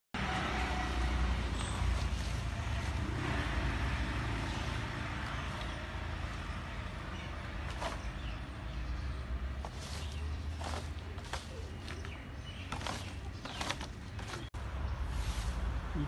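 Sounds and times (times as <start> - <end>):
dry leaves rustling: 0.2 - 16.0.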